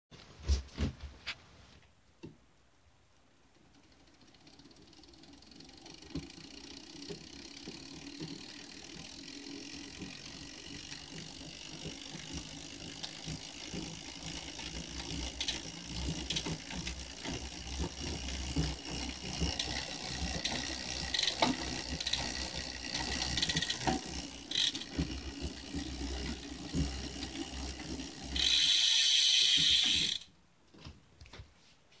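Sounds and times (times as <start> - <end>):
bicycle freewheel clicking: 3.6 - 30.3.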